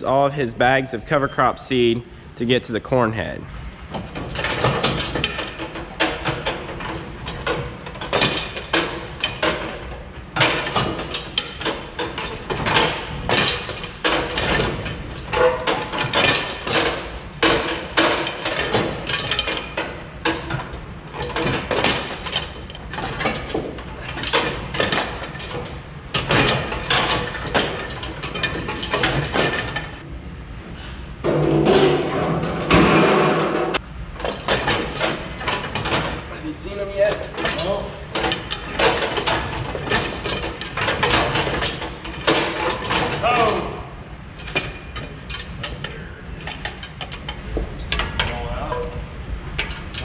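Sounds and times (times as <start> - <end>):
metallic knocks and clanks: 3.8 - 30.1, 31.2 - 50.0.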